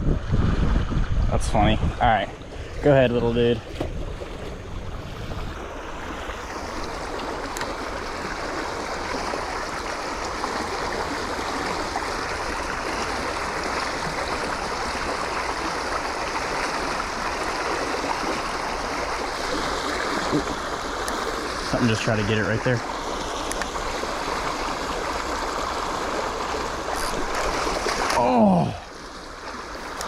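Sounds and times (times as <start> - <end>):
water flowing through channel: 0.0 - 30.0.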